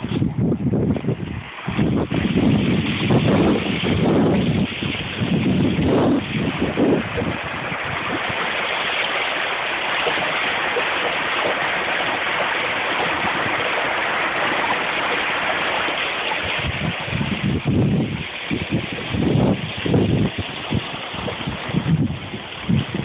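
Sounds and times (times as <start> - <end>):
water gushing into channel: 0.0 - 23.0
wind rumble on microphone: 0.0 - 23.0.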